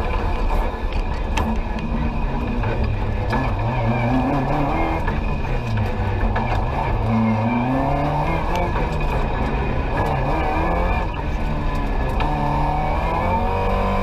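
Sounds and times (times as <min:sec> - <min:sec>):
rally car engine from inside cabin: 0:00.0 - 0:14.0.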